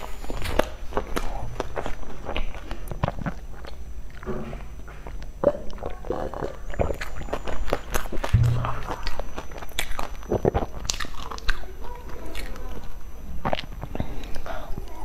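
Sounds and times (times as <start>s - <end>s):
chewing mouth sounds: 0.0s - 15.0s.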